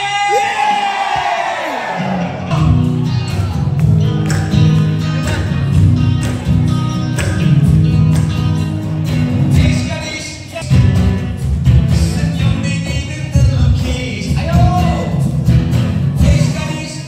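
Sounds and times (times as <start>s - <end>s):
bass guitar: 1.8s - 17.0s
electric guitar: 1.8s - 17.0s
steady drum beat: 2.5s - 17.0s.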